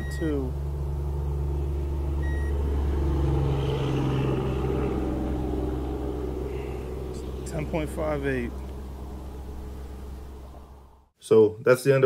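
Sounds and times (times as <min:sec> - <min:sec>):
boat motor humming: 0:00.0 - 0:11.1.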